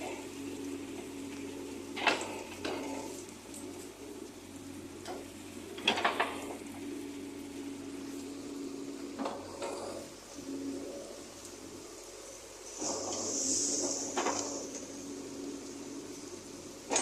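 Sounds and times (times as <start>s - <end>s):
backhoe engine hum: 0.0s - 17.0s.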